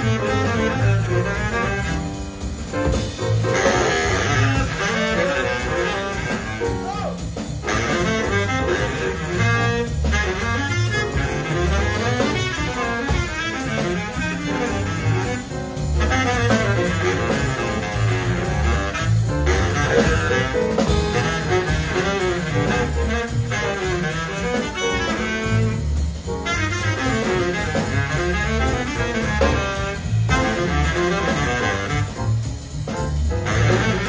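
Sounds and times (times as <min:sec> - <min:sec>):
baritone saxophone solo: 0:00.0 - 0:34.0
double bass: 0:00.0 - 0:34.0
drums: 0:00.0 - 0:34.0
piano: 0:00.0 - 0:34.0.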